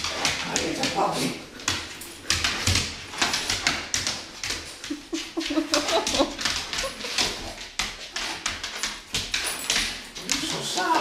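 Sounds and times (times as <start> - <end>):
dog claws clicking on wooden floor: 0.0 - 11.0.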